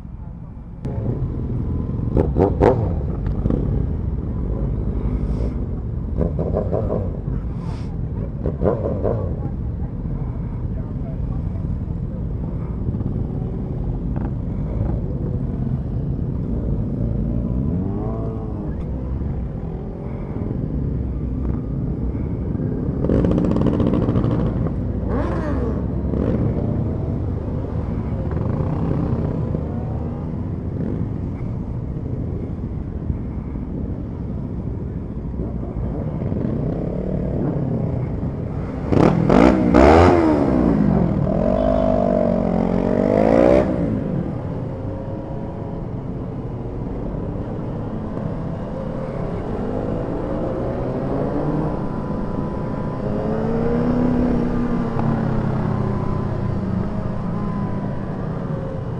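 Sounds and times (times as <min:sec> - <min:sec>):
motorcycle engines running: 0:00.0 - 0:58.9
road and wind noise: 0:00.0 - 0:58.9
motorcycle revving: 0:00.8 - 0:58.9.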